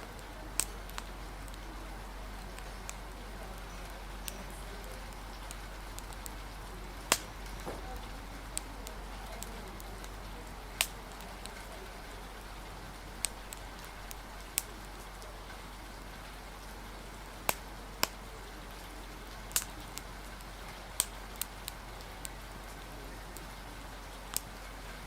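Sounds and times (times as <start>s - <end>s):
steady rain hiss: 0.0s - 25.0s
wood fire crackling and popping: 0.0s - 25.0s.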